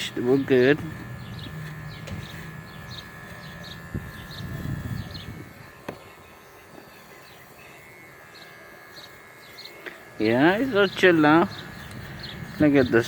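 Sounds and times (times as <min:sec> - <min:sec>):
electric hair clippers running: 0:00.0 - 0:13.0.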